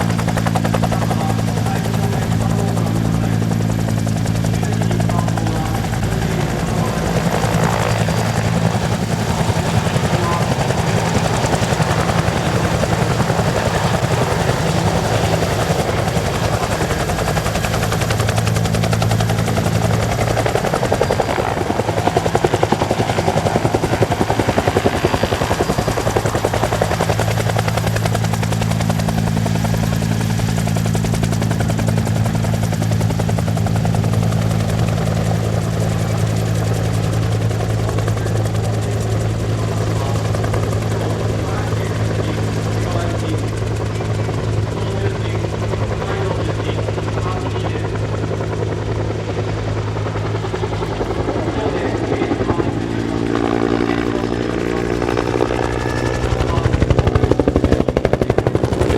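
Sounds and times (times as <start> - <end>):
helicopter rotor beating: 0.0 - 58.9
turbine engine hum: 0.0 - 58.9.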